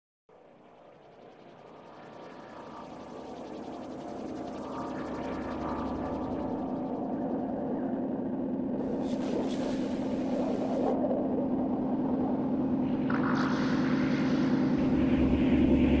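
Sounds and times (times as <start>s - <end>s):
low mechanical drone: 0.5s - 16.0s.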